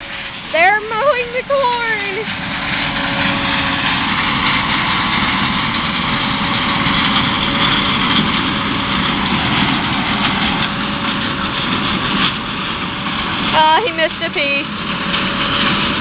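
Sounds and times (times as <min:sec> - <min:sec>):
harvester machinery drone: 0:00.0 - 0:16.0.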